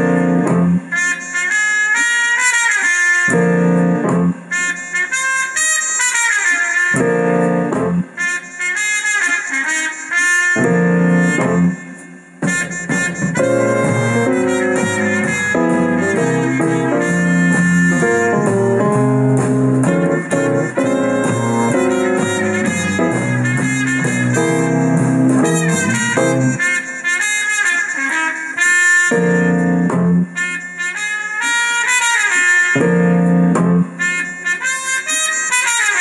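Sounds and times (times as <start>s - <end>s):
accompanying instruments: 0.0s - 35.9s
muted trumpet playing jazz: 0.0s - 36.0s.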